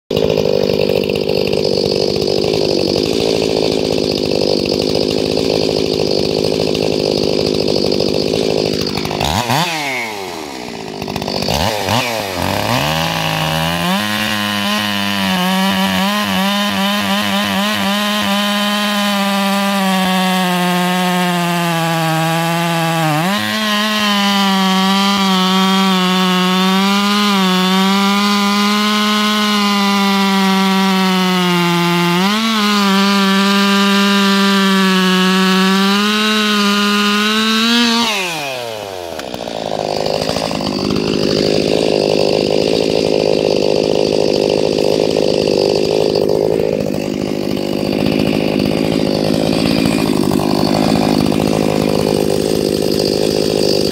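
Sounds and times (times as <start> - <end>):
chainsaw cutting wood: 0.1 - 53.9
chainsaw idling: 0.1 - 53.9.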